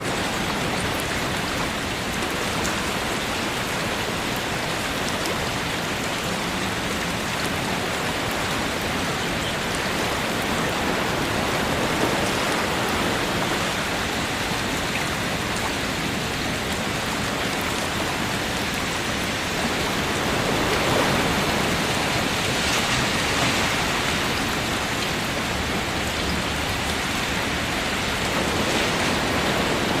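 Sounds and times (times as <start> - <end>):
heavy rainfall: 0.0 - 30.0
ocean waves: 0.0 - 30.0.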